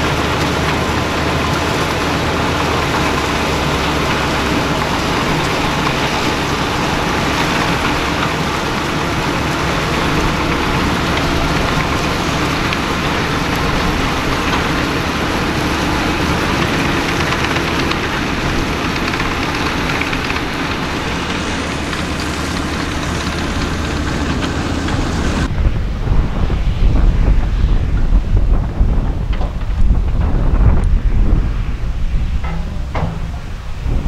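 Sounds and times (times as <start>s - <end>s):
tractor diesel engine drone: 0.0s - 34.0s
wind buffeting on microphone: 0.0s - 34.0s.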